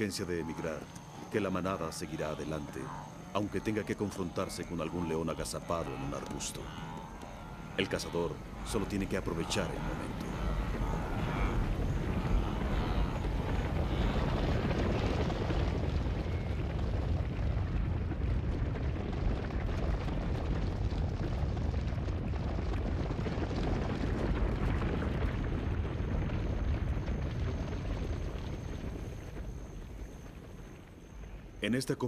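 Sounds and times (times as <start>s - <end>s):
herd hooves galloping on dry ground: 0.0s - 31.8s.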